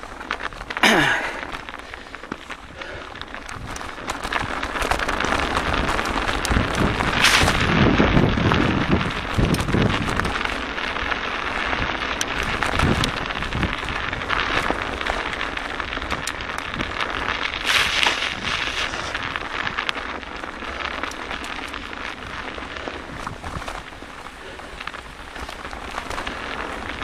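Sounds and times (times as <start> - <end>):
bike clicks and rattles: 0.0 - 27.0
bike tyres crunching on frozen snow: 0.0 - 27.0
wind buffeting microphone: 2.6 - 27.0.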